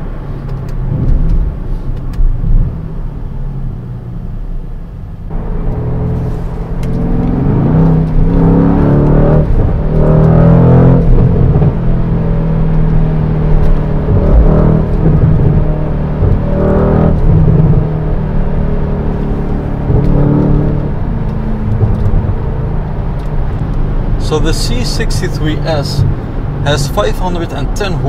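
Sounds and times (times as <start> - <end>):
car engine heard from inside cabin: 0.0 - 28.0.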